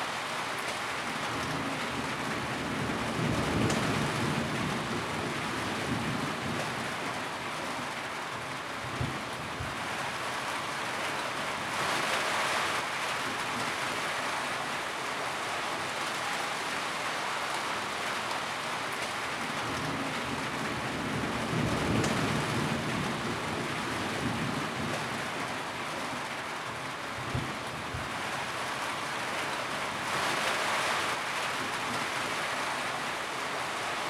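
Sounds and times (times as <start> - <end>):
rain drumming on a tin roof: 0.0 - 34.0.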